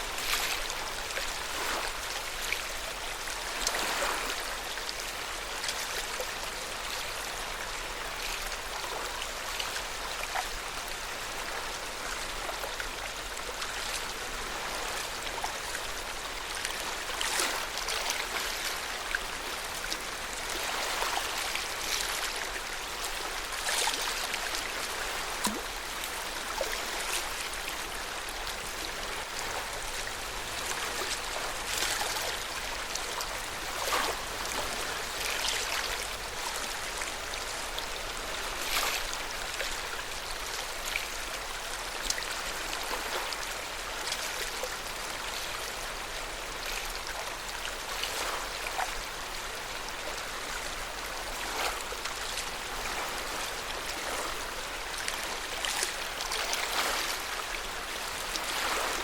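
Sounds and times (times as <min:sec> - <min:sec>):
water lapping at shore: 0:00.0 - 0:59.0.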